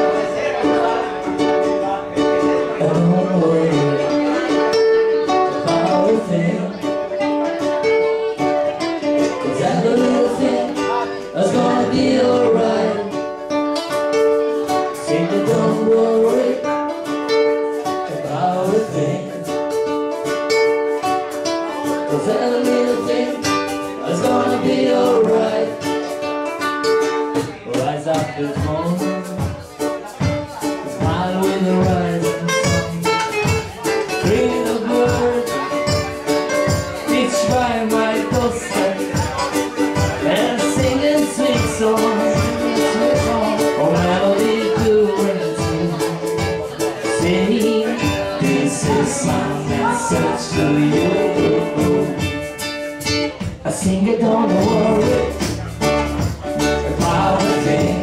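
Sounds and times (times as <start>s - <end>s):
man singing: 0.0s - 20.2s, 21.2s - 26.3s, 27.3s - 58.0s
bass: 0.0s - 58.0s
strummed ukuleles: 0.0s - 58.0s.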